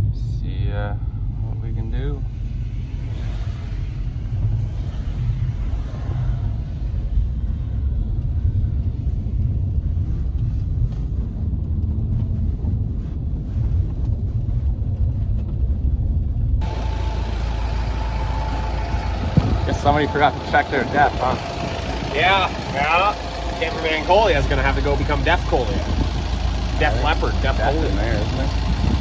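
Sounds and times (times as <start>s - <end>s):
engine with steady whine: 0.0s - 29.0s
truck engine and road noise: 1.2s - 15.2s, 16.4s - 29.0s.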